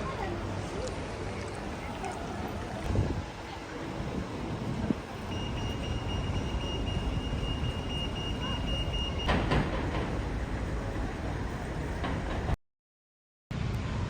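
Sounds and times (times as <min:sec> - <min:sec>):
road traffic rumbling: 0:00.0 - 0:12.6.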